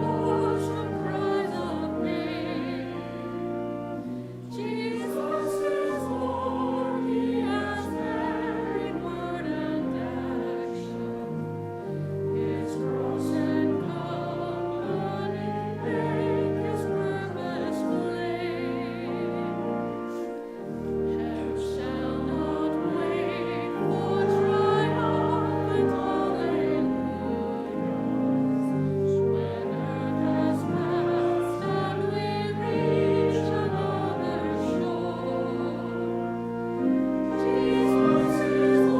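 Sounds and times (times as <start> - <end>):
choir singing sacred music: 0.0 - 38.9
instrumental accompaniment: 0.0 - 38.9.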